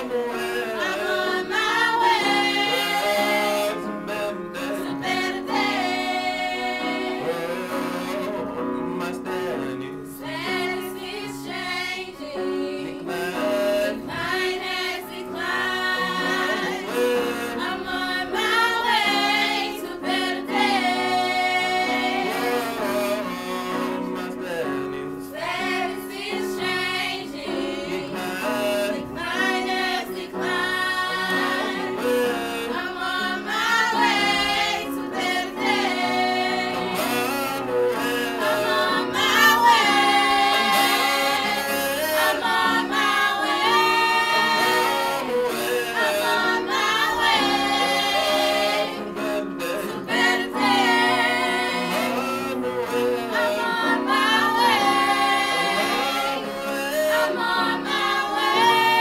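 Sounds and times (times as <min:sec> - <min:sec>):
choir singing in harmony: 0:00.0 - 0:59.0.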